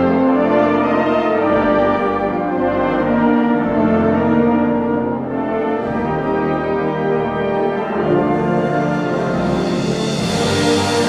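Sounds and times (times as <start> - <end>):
french horn sustained notes: 0.0 - 11.0
orchestral music: 0.0 - 11.0.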